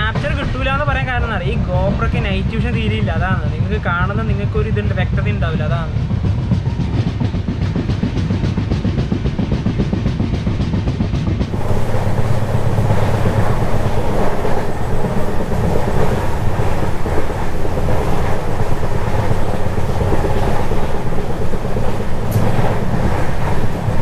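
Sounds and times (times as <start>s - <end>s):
train wheels rumbling and rattling: 0.0s - 24.0s.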